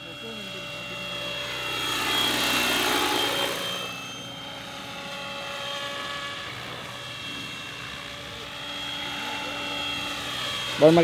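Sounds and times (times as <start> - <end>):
model helicopter whine and rotor rush: 0.0 - 11.0.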